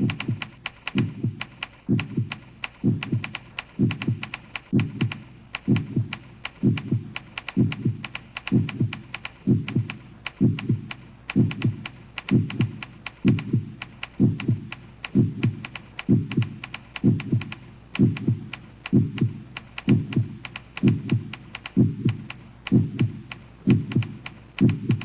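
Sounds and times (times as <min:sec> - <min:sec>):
low double thump beat: 0:00.0 - 0:25.0
quick ticking clicks: 0:00.0 - 0:25.0.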